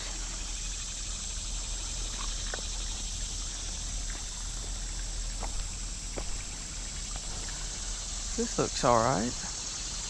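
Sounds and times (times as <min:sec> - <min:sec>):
constant high hiss: 0:00.0 - 0:10.0
creek water trickling: 0:00.0 - 0:10.0.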